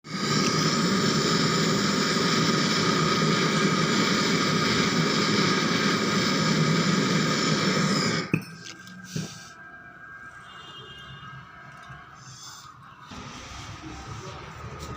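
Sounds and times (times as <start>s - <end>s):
machine humming and whining: 0.0s - 14.9s.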